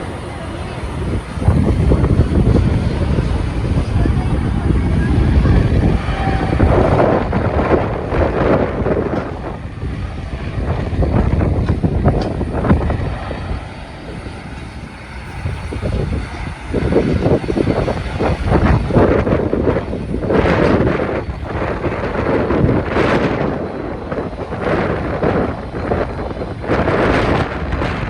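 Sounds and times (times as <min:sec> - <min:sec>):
jet engines rumbling: 0:00.0 - 0:28.0
wind buffeting microphone: 0:00.0 - 0:28.0.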